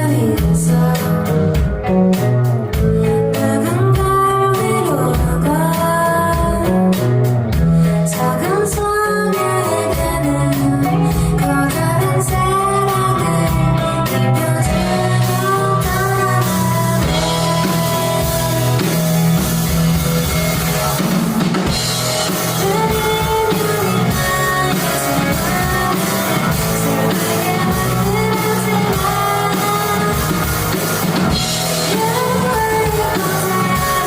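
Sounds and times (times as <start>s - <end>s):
bass guitar: 0.0s - 34.0s
drum kit: 0.0s - 34.0s
electric guitar: 0.0s - 34.0s.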